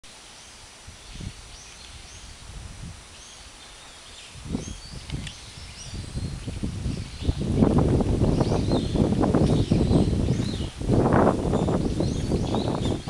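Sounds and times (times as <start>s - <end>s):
small birds chirping: 0.2s - 13.0s
wind gusting against microphone: 0.5s - 13.0s.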